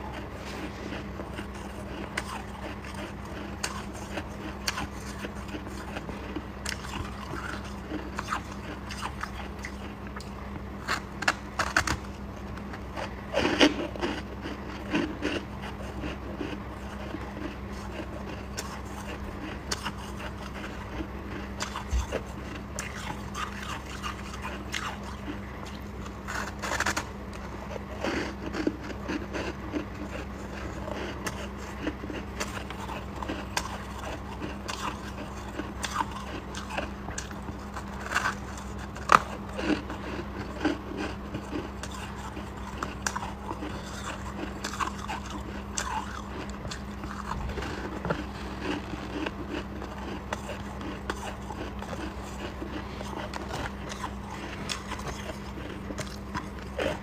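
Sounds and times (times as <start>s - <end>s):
crunching ice being chewed: 0.0s - 57.0s
steady low hum: 0.0s - 57.0s.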